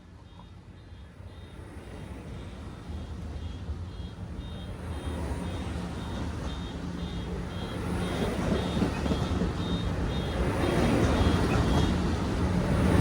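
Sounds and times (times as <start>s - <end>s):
diesel locomotive rumbling: 1.6s - 13.0s.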